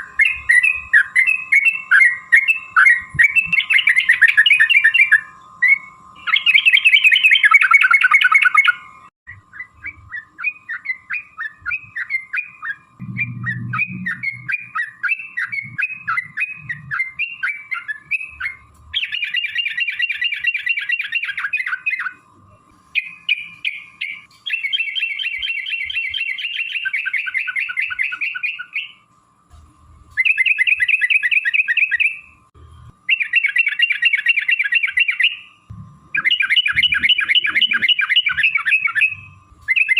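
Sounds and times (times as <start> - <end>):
bulbul singing rolling chatters: 0.0 - 29.0, 33.1 - 39.9.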